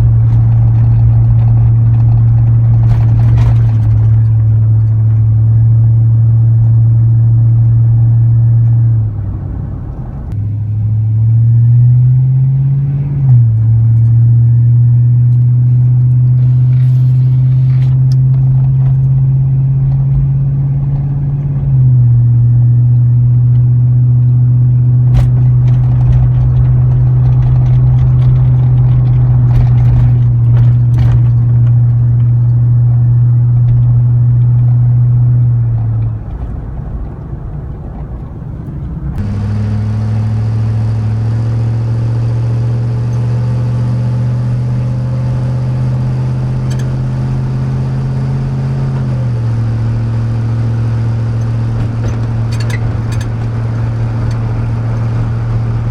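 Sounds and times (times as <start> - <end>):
engine exhaust drone in cab: 0.0 - 55.9.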